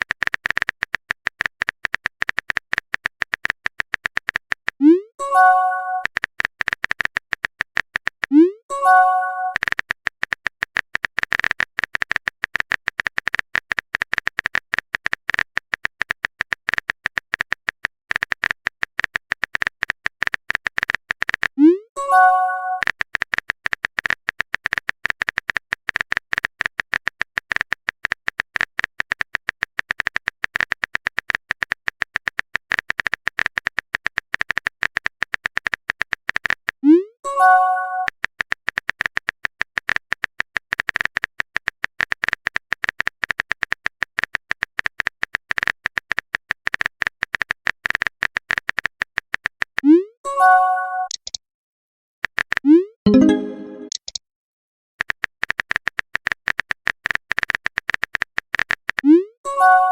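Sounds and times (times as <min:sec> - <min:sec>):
phone keyboard clicking: 0:00.0 - 0:04.8, 0:06.0 - 0:08.3, 0:09.5 - 0:21.6, 0:22.8 - 0:36.8, 0:38.2 - 0:49.8, 0:51.1 - 0:51.4, 0:55.0 - 0:59.1.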